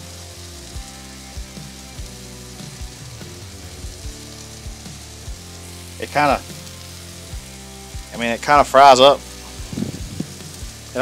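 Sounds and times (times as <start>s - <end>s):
background music with bass: 0.0s - 11.0s
patties frying on griddle: 0.0s - 11.0s.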